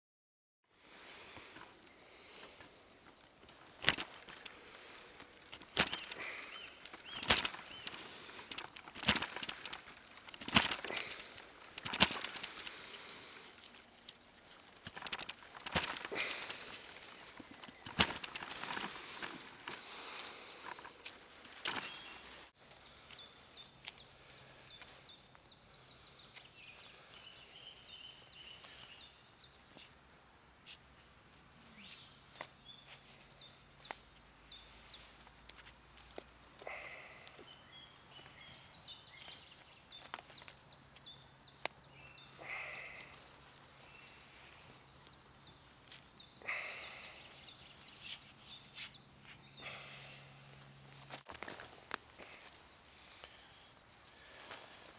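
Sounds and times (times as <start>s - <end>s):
small birds chirping: 0.8s - 54.9s.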